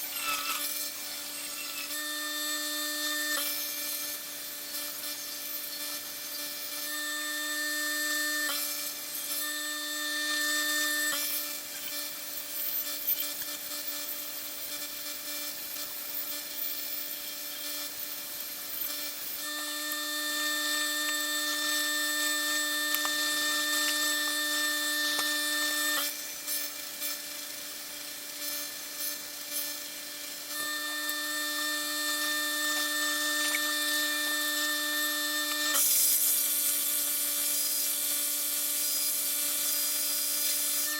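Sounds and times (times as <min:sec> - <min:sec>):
power tool motor whine: 0:00.0 - 0:40.9.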